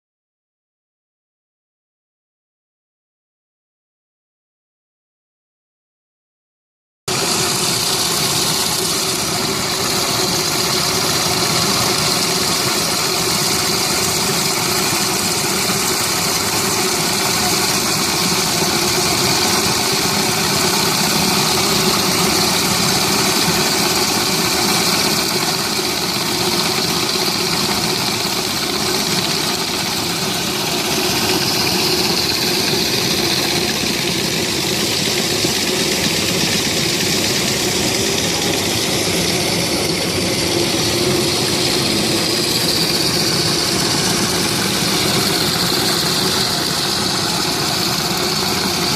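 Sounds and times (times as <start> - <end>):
high-pressure water spraying: 7.1 - 48.9
pressure washer engine drone: 7.1 - 48.9.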